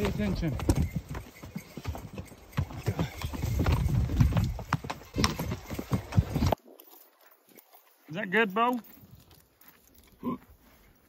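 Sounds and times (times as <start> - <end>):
horse hooves clopping on gravel: 0.0 - 11.0.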